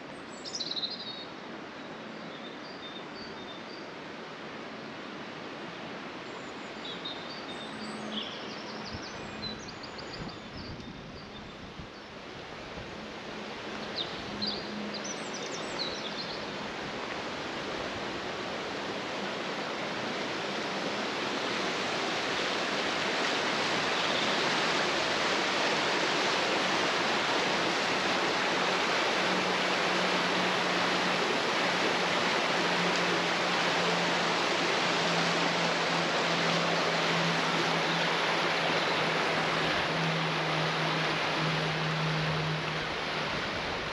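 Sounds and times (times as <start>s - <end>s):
rushing water: 0.0s - 43.9s.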